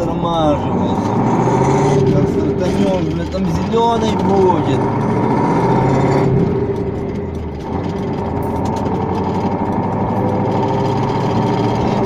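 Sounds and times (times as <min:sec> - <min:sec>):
truck diesel engine pulling away: 0:00.0 - 0:12.0.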